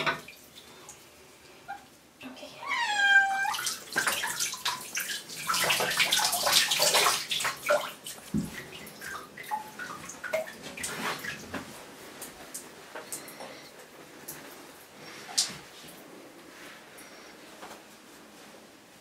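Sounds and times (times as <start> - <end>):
water splashing in a bathtub: 0.0 - 18.1.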